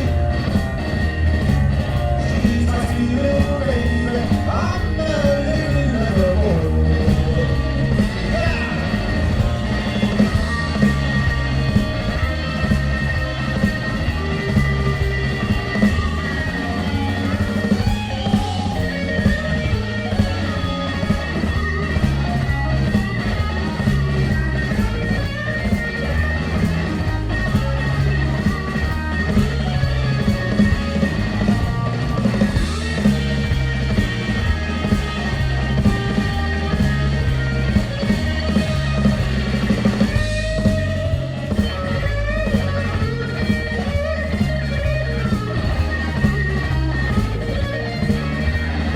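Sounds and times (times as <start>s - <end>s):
live blues band playing: 0.0s - 48.9s.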